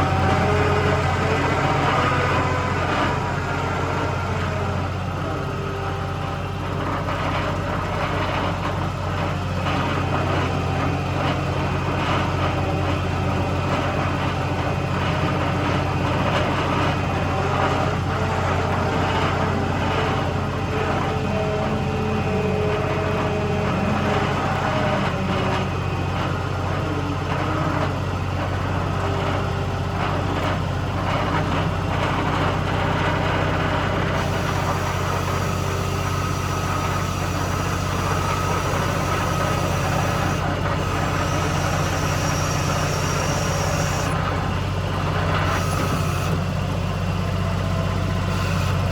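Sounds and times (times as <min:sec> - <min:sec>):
diesel engine running steadily: 0:00.0 - 0:48.9.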